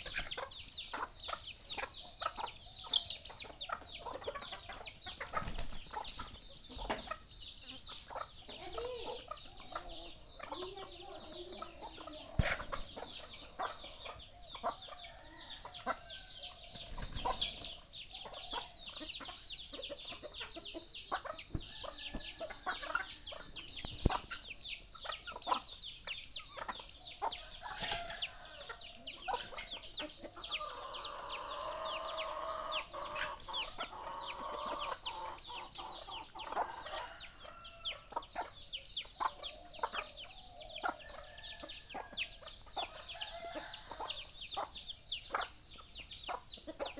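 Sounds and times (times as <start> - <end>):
birds chirping rapidly: 0.0 - 46.9.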